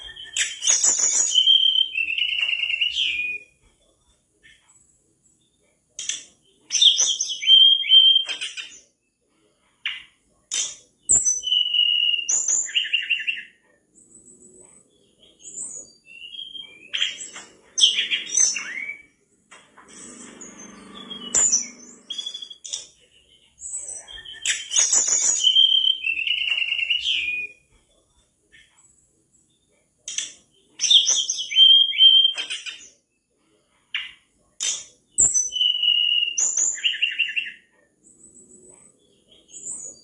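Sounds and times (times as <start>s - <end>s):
bird singing whistled notes: 0.0s - 3.7s, 5.4s - 8.9s, 10.7s - 19.2s, 19.9s - 27.7s, 29.5s - 33.0s, 34.8s - 40.0s.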